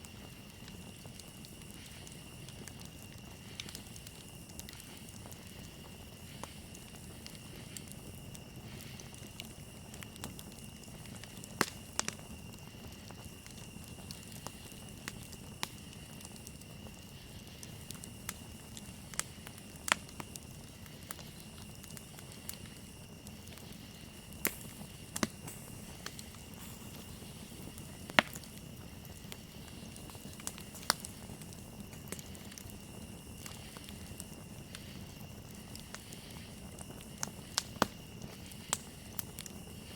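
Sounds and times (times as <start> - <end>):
campfire crackling and popping: 0.0 - 39.9
crickets chirring: 0.0 - 39.9
hiss of burning wood: 0.0 - 39.9.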